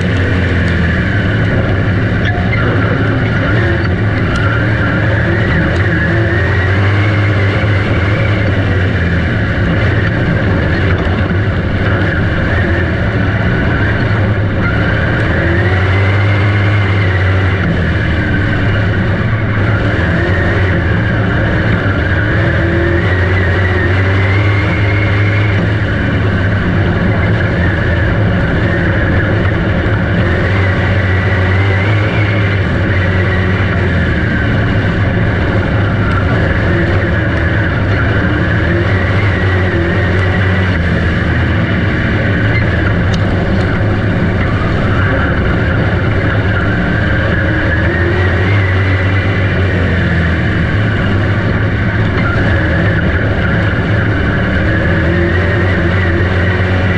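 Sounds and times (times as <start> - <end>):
race car engines revving: 0.0 - 56.9.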